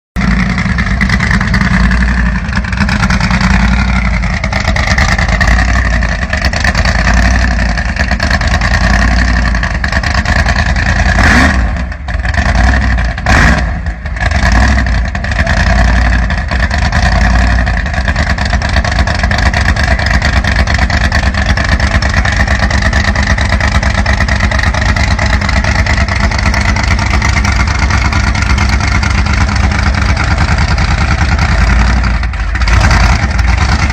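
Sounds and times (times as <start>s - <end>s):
car engine running loudly: 0.2s - 33.9s
engine sharp cracks: 0.2s - 33.9s.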